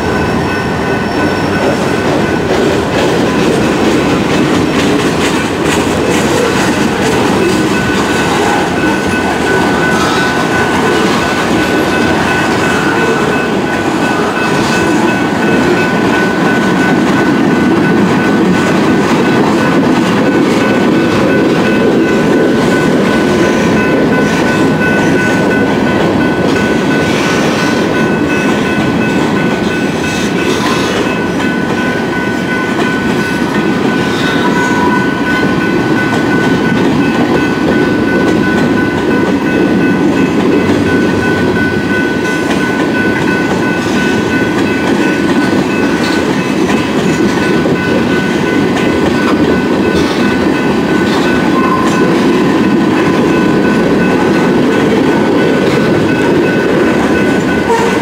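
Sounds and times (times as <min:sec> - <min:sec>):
freight train wheels clattering: 0:00.0 - 0:58.0
steady high-pitched tone: 0:04.1 - 0:58.0.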